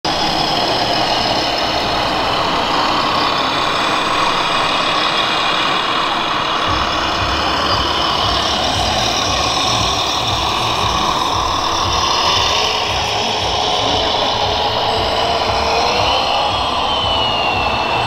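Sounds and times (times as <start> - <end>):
engine idling: 0.0 - 18.0
deep low rumble: 0.1 - 18.0.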